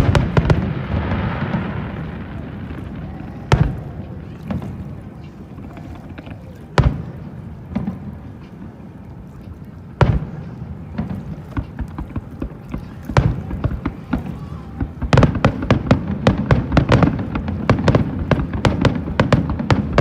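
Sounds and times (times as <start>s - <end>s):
firework pops and crackles: 0.0s - 8.6s, 10.0s - 20.0s
firework bangs: 0.0s - 8.7s, 10.0s - 20.0s.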